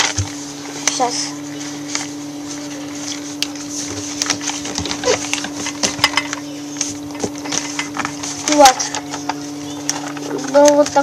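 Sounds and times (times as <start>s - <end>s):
low hum: 0.0s - 11.0s
paper crinkling and rustling: 0.0s - 11.0s.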